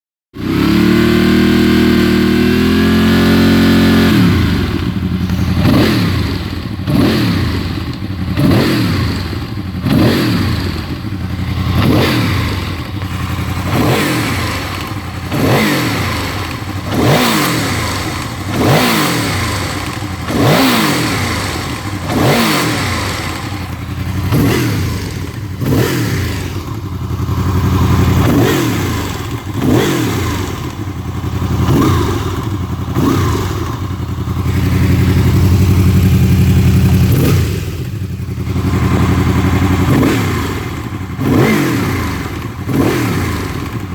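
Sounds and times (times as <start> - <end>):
motorcycle engine revving: 0.4 - 43.9.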